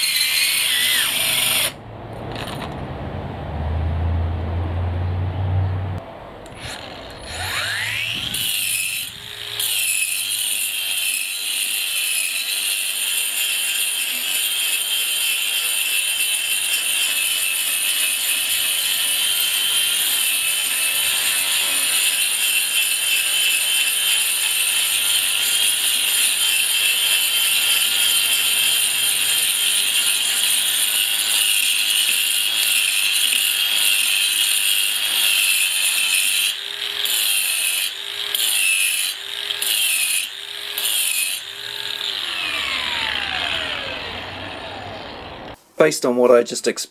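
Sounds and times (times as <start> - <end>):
angle grinder grinding concrete: 0.0 - 2.8, 6.5 - 45.6.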